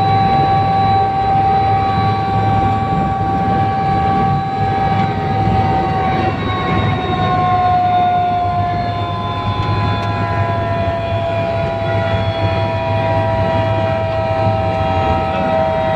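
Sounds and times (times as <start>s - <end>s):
helicopter rotor drone: 0.0s - 15.9s
helicopter turbine whine: 0.0s - 15.9s.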